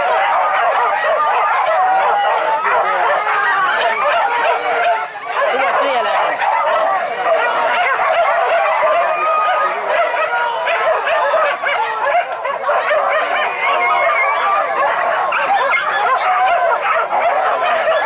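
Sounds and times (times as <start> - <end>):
dogs yelping and barking: 0.0 - 18.0.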